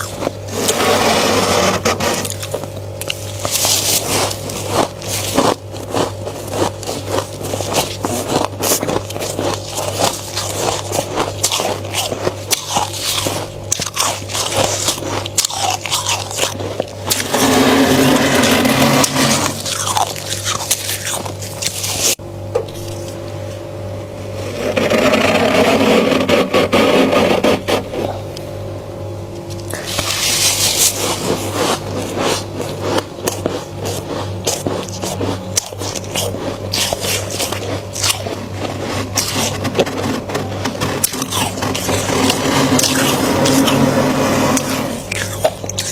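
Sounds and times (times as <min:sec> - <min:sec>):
crunching of freezer frost: 0:00.0 - 0:23.6, 0:29.3 - 0:45.9
steady low hum: 0:00.0 - 0:45.9.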